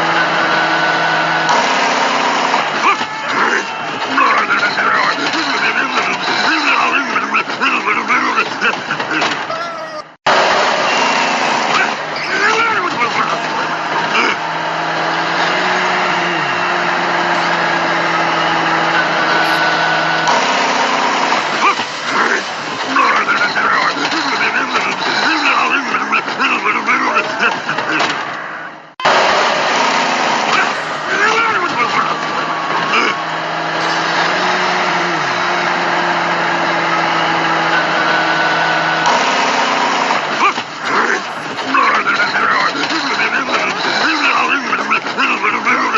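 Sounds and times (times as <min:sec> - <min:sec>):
vehicle engine droning: 0:00.0 - 0:09.5, 0:10.3 - 0:45.9.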